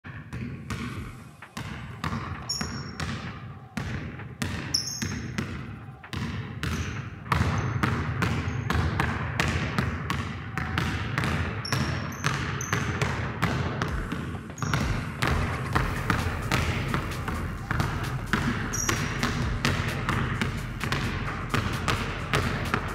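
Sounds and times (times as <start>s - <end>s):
basketball bouncing on wooden floor: 0.1s - 22.9s
sneaker squeaks: 0.4s - 8.8s, 11.4s - 13.1s, 13.8s - 22.9s.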